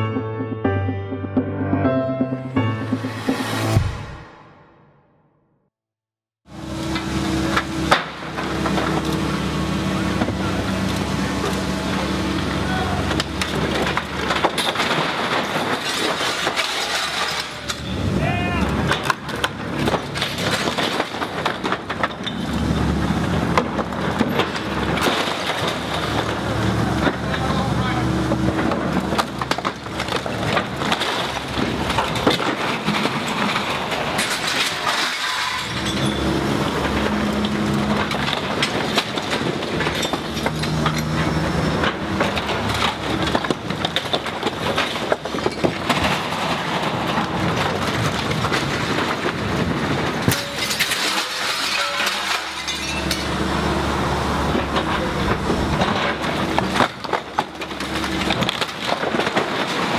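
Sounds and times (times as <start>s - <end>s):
debris cracking and crashing: 6.9s - 59.9s.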